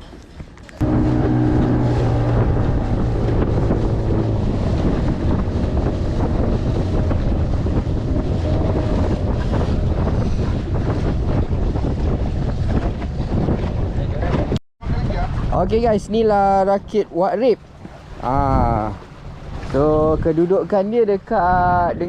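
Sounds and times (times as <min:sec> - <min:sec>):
boat engine running: 0:00.5 - 0:14.6, 0:15.2 - 0:21.8
water rushing past hull: 0:00.7 - 0:21.4
wind buffeting microphone: 0:00.8 - 0:22.0.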